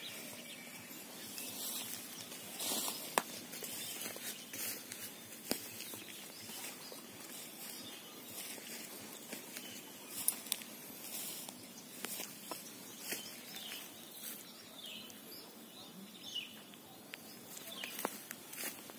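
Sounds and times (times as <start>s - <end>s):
bird chirping: 0.0s - 18.6s
faint outdoor rustling: 0.0s - 18.9s.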